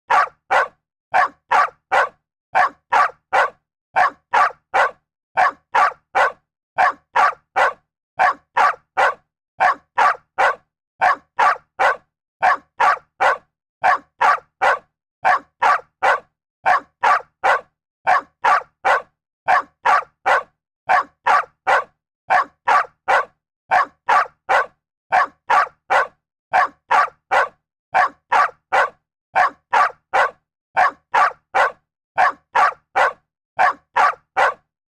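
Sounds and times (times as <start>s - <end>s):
dog barking: 0.1s - 34.7s.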